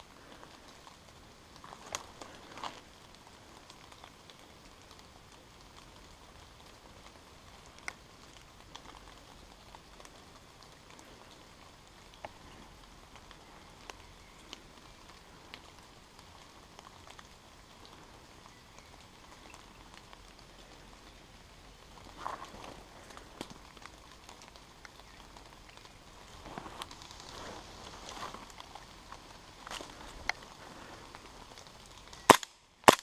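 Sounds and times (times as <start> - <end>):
water drops pattering on foliage: 0.0 - 33.0.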